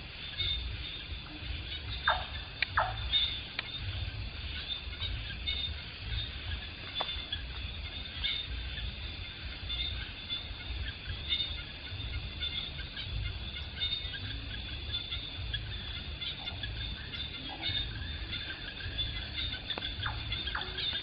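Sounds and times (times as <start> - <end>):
insects trilling: 0.0 - 21.0
low rumble: 0.0 - 21.0
short insect chirps: 0.0 - 21.0.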